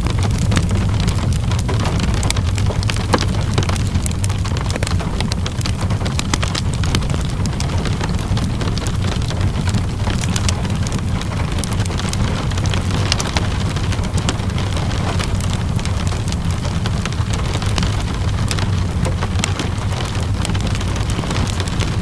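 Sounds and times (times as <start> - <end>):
deep constant rumble: 0.0 - 22.0
rain hiss: 0.0 - 22.0
wood fire crackling: 0.0 - 22.0.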